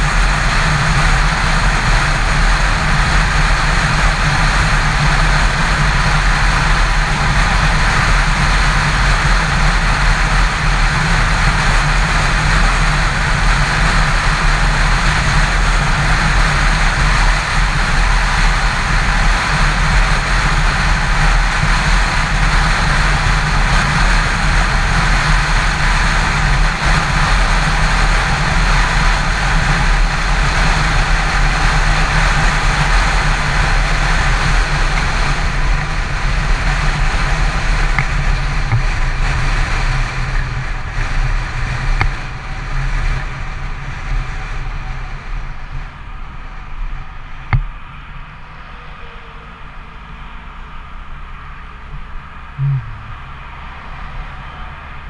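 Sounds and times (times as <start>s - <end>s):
motorcycle engine running: 0.0s - 55.0s
road noise: 0.0s - 55.0s
wind rushing over microphone: 0.0s - 55.0s.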